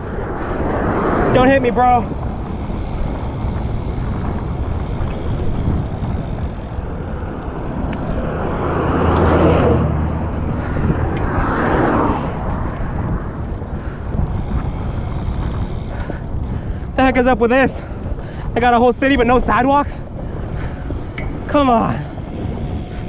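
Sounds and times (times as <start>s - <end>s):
motor vehicles passing: 0.0s - 23.0s
steady low rumble: 0.0s - 23.0s.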